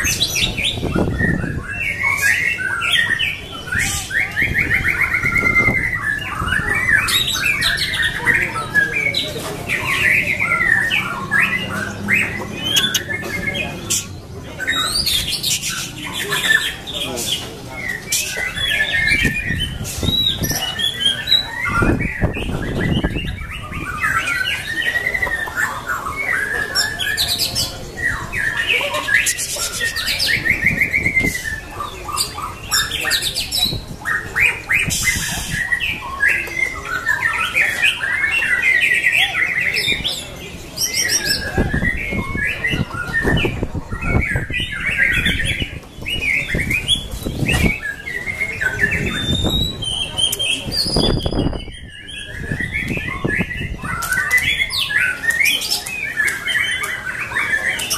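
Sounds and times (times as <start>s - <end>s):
bird singing varied warbling phrases: 0.0s - 57.9s.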